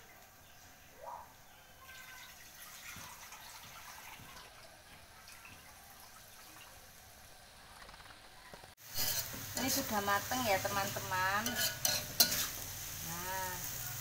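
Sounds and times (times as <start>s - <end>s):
noodles sizzling in a wok: 1.7s - 14.0s.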